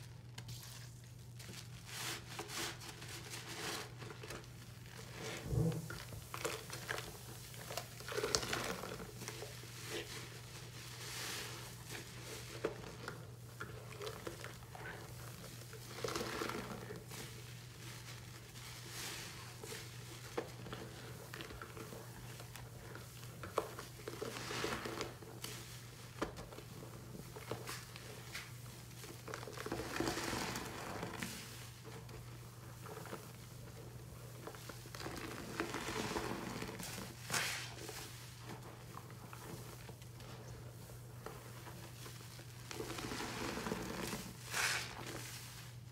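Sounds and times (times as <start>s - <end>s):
sponge squelching in suds: 0.3s - 45.9s.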